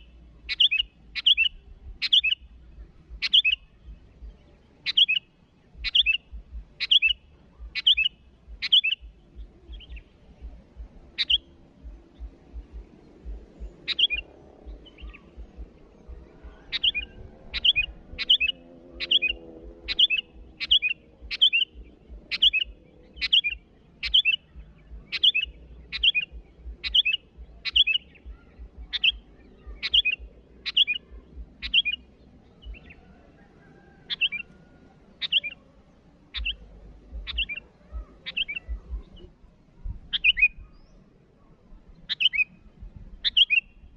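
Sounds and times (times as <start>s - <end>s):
bird calling with sharp notes: 0.0s - 43.9s.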